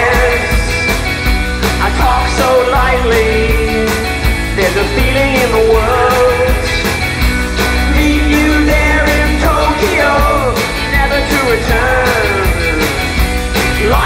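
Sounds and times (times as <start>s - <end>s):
person singing: 0.0s - 1.1s, 1.7s - 14.0s
guitars: 0.0s - 14.0s
rock song: 0.0s - 14.0s
steady drum beat: 0.0s - 14.0s.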